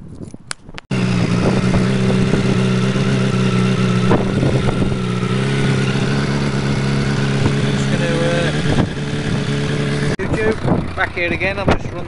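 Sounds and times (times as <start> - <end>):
motorcycle engine idling: 0.9 - 12.0.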